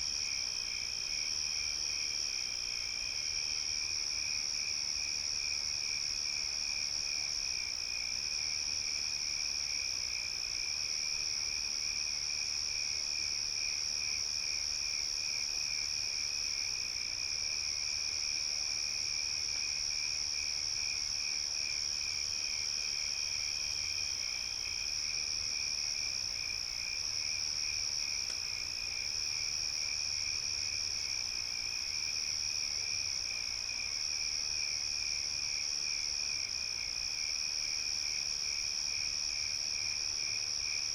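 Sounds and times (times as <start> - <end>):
low pulsing cricket chirp: 0.0 - 40.9.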